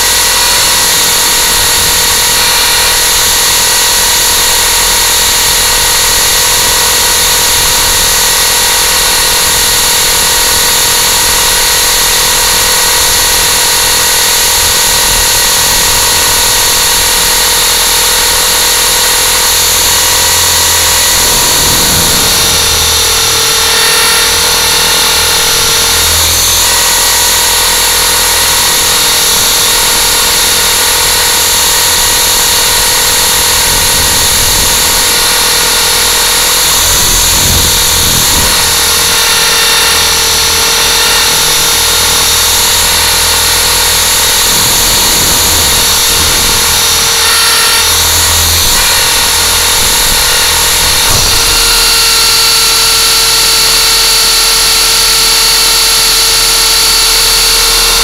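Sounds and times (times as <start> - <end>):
drone rotors whining: 0.0 - 58.0.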